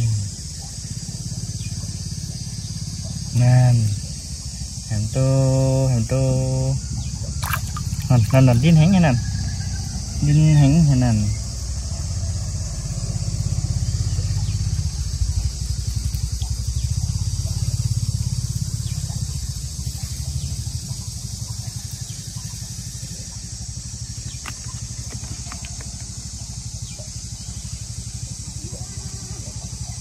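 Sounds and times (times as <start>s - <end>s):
small engine running water pump: 0.0s - 30.0s.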